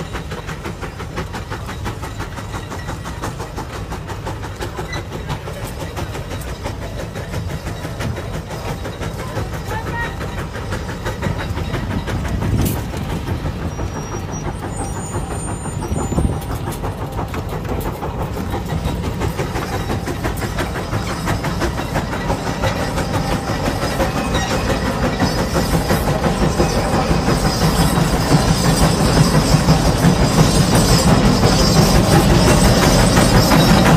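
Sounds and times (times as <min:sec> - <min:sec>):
steam traction engine chuffing: 0:00.0 - 0:33.9.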